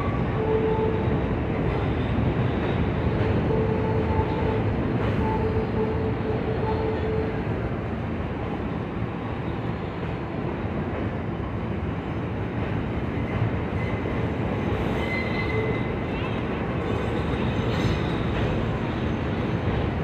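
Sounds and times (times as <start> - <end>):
subway wheels rumbling on rail: 0.0 - 20.0.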